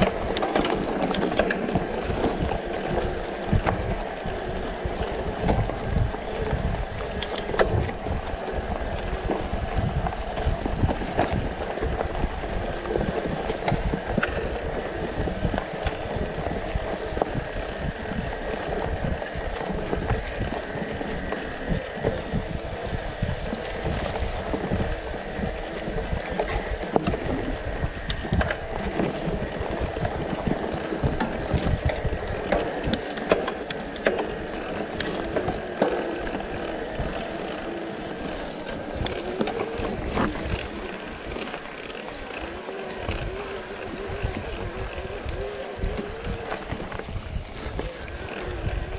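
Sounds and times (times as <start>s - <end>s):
bike rattling over bumps: 0.0s - 48.9s
bike tyres rolling over dirt: 0.0s - 48.9s
wind buffeting microphone: 0.0s - 48.9s.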